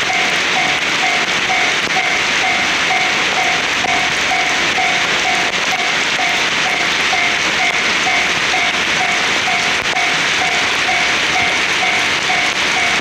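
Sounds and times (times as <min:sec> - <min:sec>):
heavy rain hiss: 0:00.0 - 0:13.0
level crossing alarm ringing: 0:00.0 - 0:13.0.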